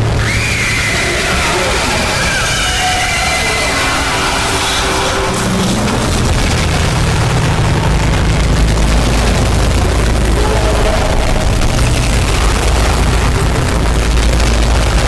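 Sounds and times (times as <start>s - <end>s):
harsh static noise: 0.0s - 15.0s
low rumble: 0.0s - 15.0s.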